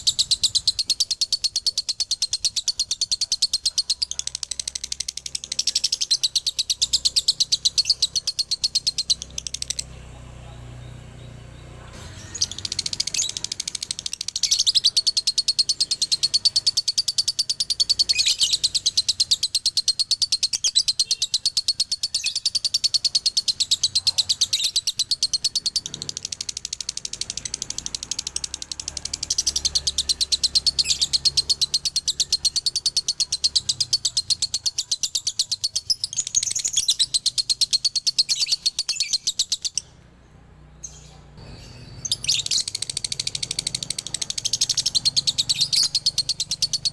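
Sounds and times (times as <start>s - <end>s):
lovebird chattering: 0.0s - 10.0s, 11.9s - 40.0s, 40.8s - 46.9s.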